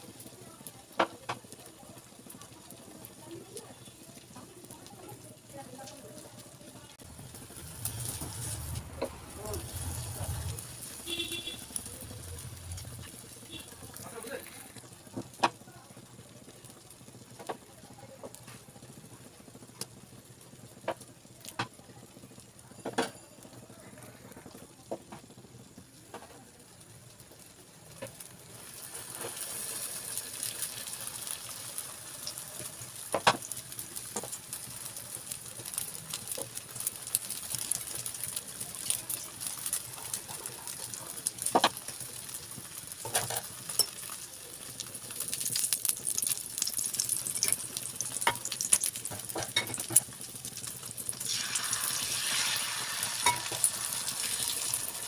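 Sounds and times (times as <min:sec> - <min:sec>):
omelette sizzling in frying pan: 0:00.0 - 0:55.0.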